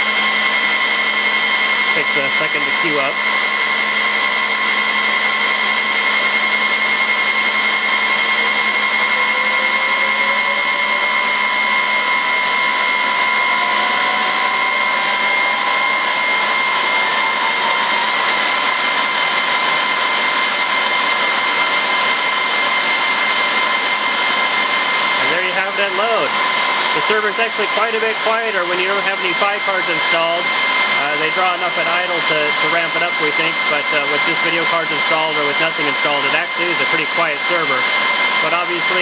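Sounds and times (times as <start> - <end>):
server cooling fans whining: 0.0 - 39.0.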